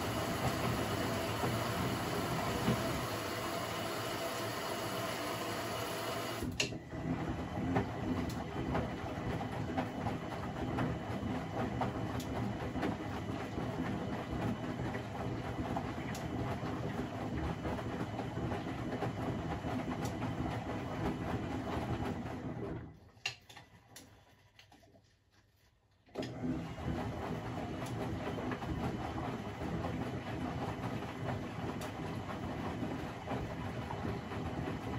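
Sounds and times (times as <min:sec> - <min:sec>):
washing machine running: 0:00.0 - 0:23.2, 0:26.1 - 0:34.9.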